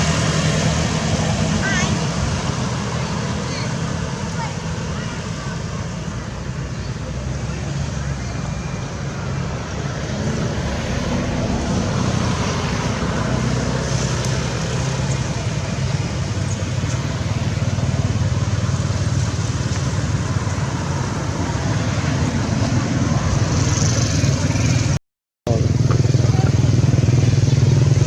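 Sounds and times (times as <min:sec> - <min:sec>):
road traffic noise: 0:00.0 - 0:28.0
vehicle engine running: 0:00.0 - 0:28.0.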